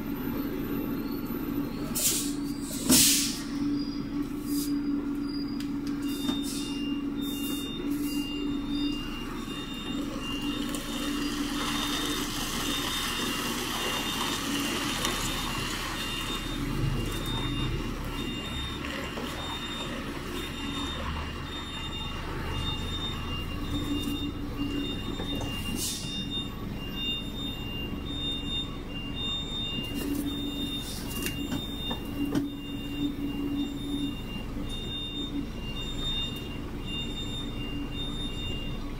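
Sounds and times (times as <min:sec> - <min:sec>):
diesel engine running: 0:00.0 - 0:38.9
truck reversing alarm beeps: 0:00.0 - 0:38.9.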